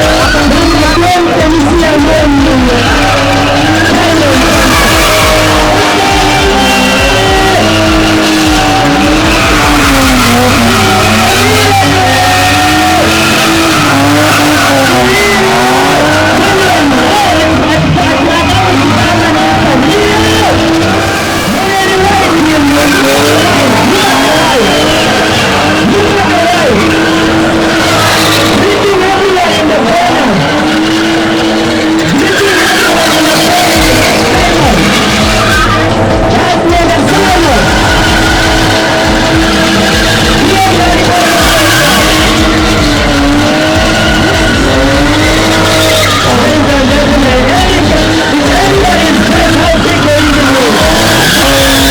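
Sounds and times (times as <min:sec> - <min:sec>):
background music: 0:00.0 - 0:51.9
car engine revving: 0:00.0 - 0:51.9
tyre squeal: 0:00.0 - 0:51.9.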